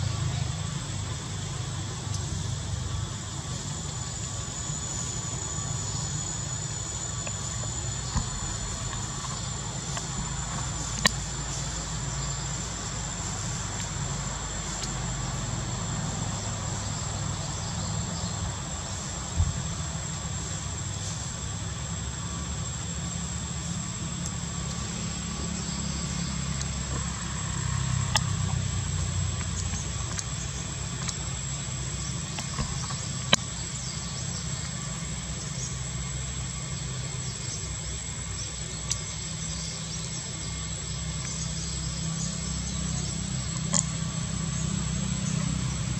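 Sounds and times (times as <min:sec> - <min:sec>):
thin high-pitched whine: 0:00.0 - 0:45.9.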